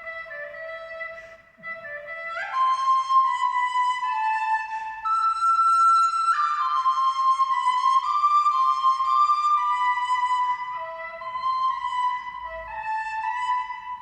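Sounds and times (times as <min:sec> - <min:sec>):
sustained flute-like notes: 0:00.0 - 0:14.0.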